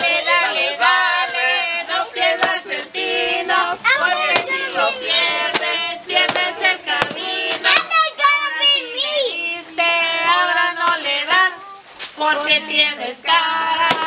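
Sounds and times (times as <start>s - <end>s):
group of people singing: 0.0s - 14.0s.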